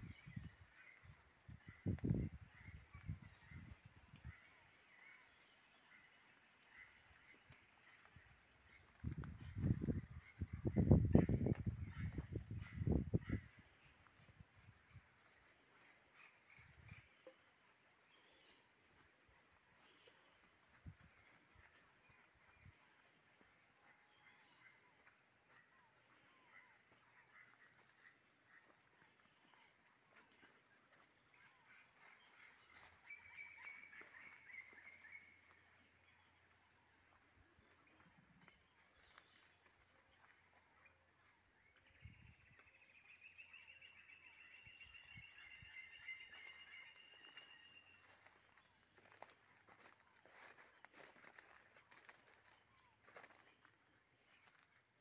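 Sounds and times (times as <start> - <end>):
faint insect drone: 0.0 - 55.0.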